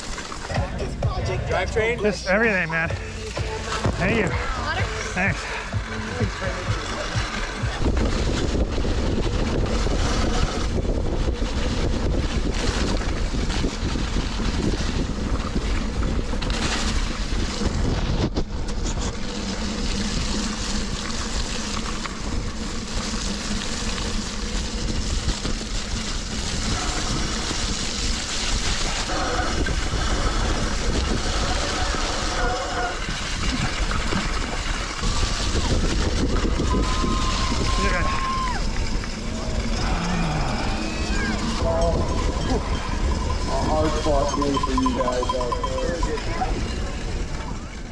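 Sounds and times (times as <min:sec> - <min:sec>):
bike rattling over ground: 0:00.0 - 0:00.9, 0:02.3 - 0:47.9
wind blasting microphone: 0:00.0 - 0:47.9.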